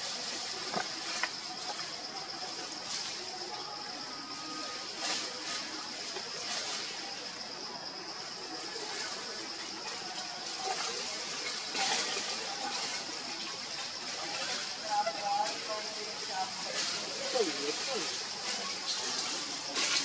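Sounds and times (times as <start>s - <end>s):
even hiss: 0.0s - 20.0s
leaves rustling: 0.0s - 20.0s.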